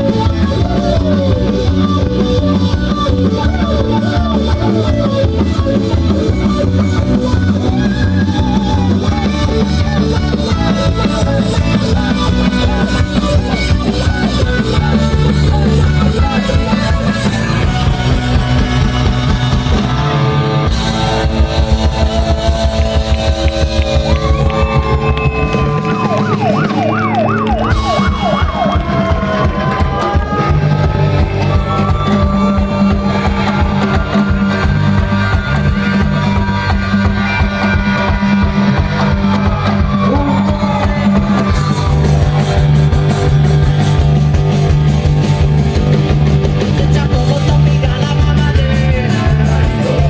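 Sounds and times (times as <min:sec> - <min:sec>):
siren-like wail: 0:00.0 - 0:45.8
live band playing: 0:00.0 - 0:50.0.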